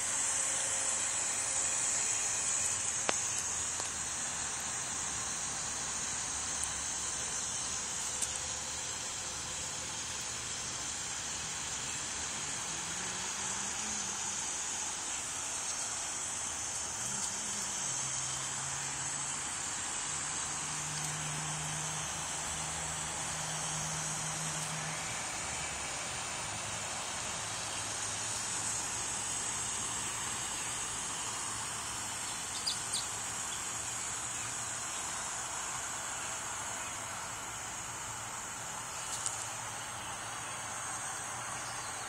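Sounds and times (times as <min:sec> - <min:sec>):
constant high hiss: 0:00.0 - 0:42.0.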